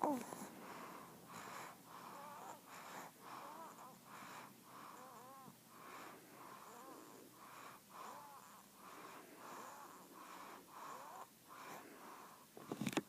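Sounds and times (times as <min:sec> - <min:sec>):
rapid wheezing breaths: 0:00.1 - 0:12.6.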